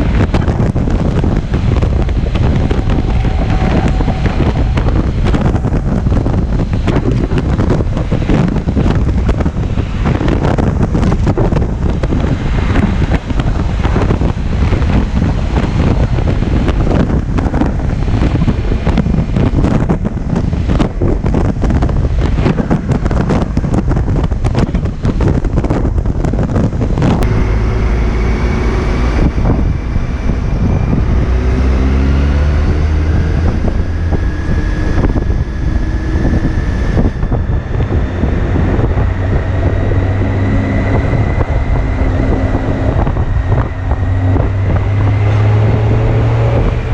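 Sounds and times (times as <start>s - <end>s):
motorcycle engine revving: 0.0s - 46.9s
wind buffeting microphone: 0.0s - 46.9s.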